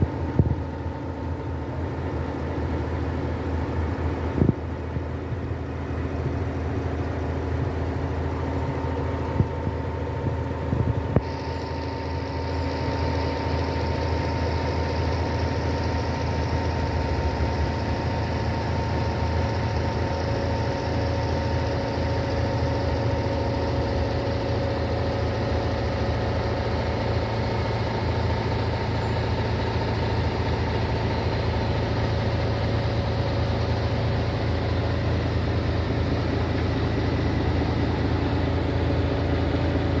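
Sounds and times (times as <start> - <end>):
diesel engine idling: 0.0 - 40.0
steady whine: 0.0 - 40.0.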